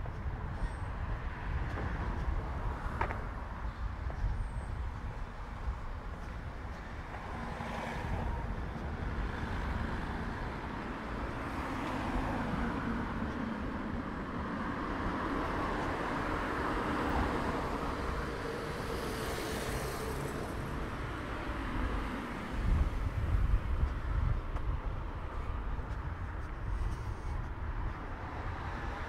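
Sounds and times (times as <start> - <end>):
cars going by: 0.0 - 29.0.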